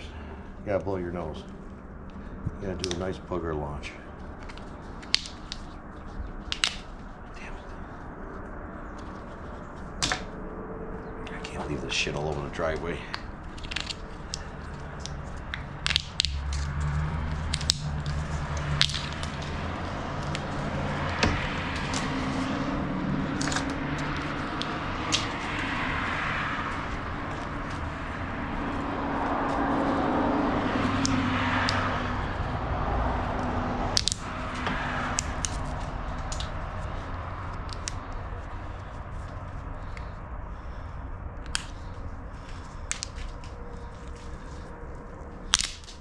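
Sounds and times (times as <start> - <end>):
rushing sound: 0.0 - 45.4
steady low hum: 0.0 - 46.0.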